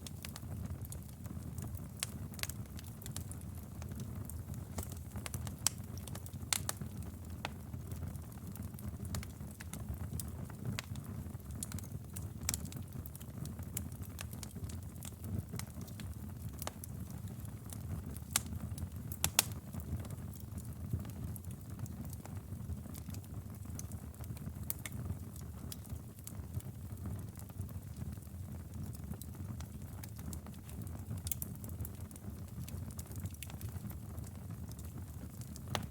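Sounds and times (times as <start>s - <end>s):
campfire flames rumbling: 0.0s - 35.9s
fire crackles and pops: 0.0s - 35.9s.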